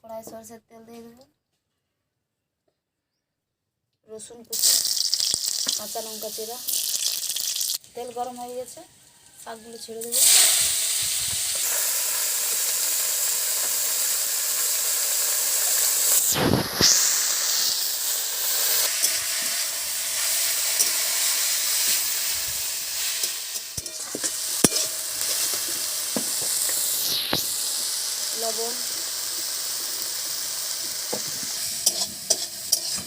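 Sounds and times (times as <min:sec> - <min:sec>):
greens sizzling in hot oil: 0:04.5 - 0:33.0.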